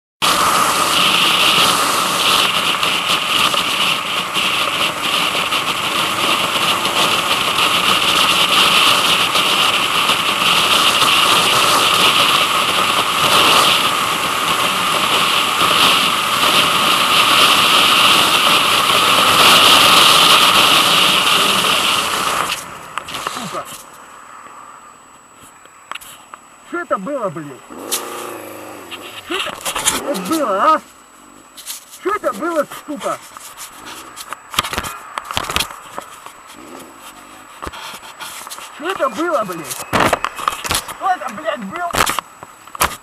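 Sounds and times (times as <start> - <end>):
vehicle engine running: 0.2 - 24.0, 26.7 - 41.6
wind and road noise: 0.2 - 43.0.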